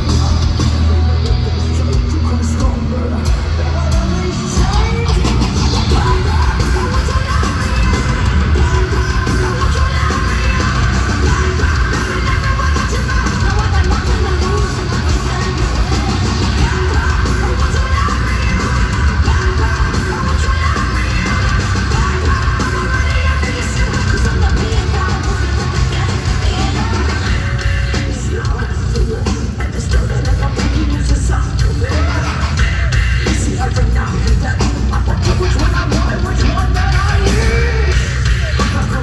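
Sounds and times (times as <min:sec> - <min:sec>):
live heavy metal band: 0:00.0 - 0:39.0
person yelling and singing: 0:00.0 - 0:39.0.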